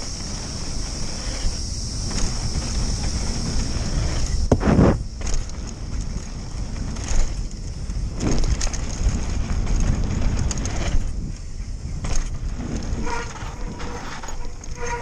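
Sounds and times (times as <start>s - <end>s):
bike knocking and rattling: 0.0s - 15.0s
wind and tyres on dirt: 0.0s - 15.0s.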